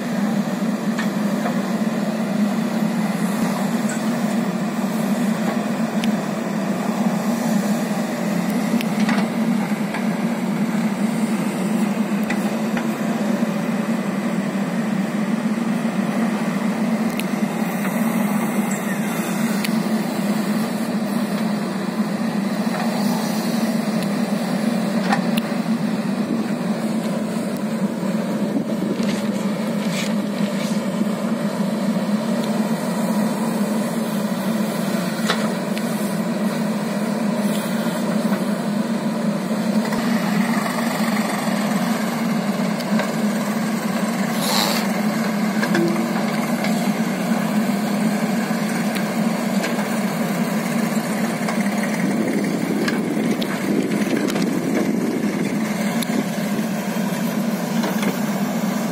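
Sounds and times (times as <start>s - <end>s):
backhoe digging soil: 0.0s - 58.9s
diesel engine running: 0.0s - 58.9s.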